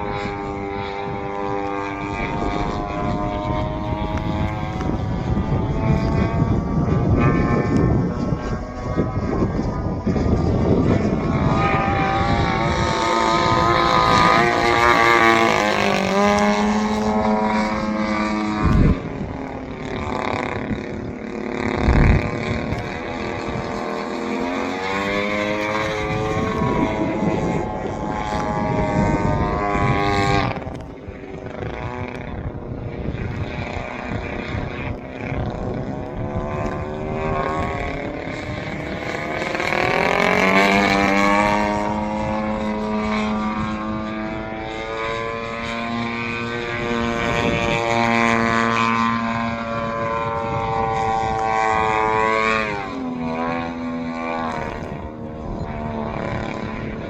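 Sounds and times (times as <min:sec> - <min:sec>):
model plane engine: 0:00.0 - 0:57.0.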